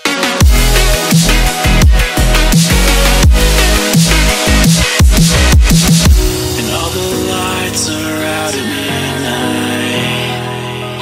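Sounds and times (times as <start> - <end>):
background music sustained notes: 0.0 - 11.0.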